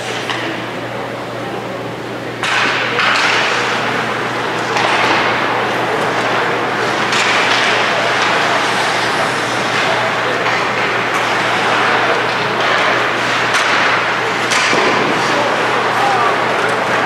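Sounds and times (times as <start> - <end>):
constant low hum: 0.0 - 17.0
ice rink crowd noise: 0.0 - 17.0.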